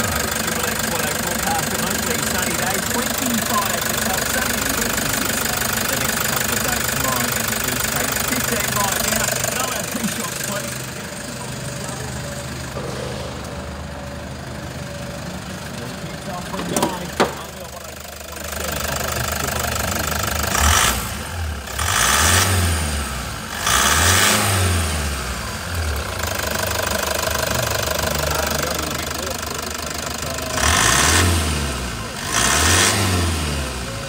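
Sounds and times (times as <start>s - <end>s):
diesel engine idling and revving: 0.0s - 34.0s.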